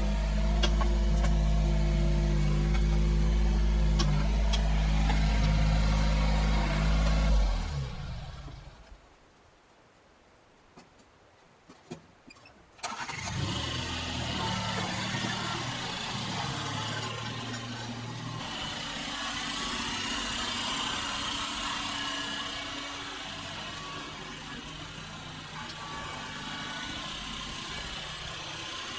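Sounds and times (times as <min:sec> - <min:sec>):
diesel engine stopping and starting: 0:00.0 - 0:08.9, 0:12.8 - 0:28.9.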